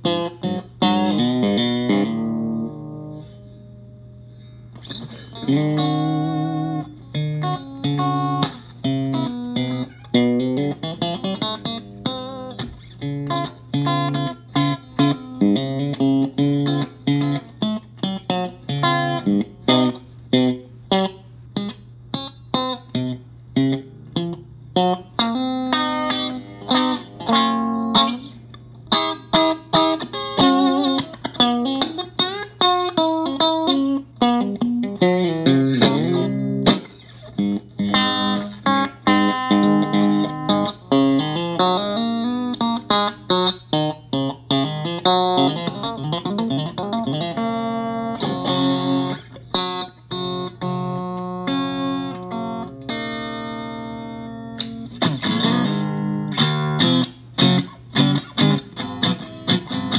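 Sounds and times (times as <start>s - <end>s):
electric guitar lead lines: 0.0s - 59.9s
low steady amp hum: 0.0s - 59.9s
strummed guitar chords: 0.0s - 59.9s.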